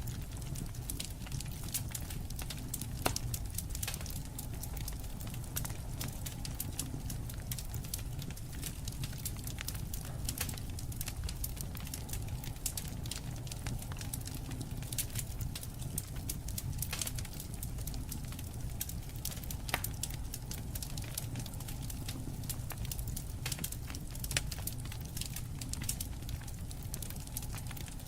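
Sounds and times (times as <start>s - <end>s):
low rumble of flames: 0.0s - 28.0s
wood crackling and popping: 0.0s - 28.0s.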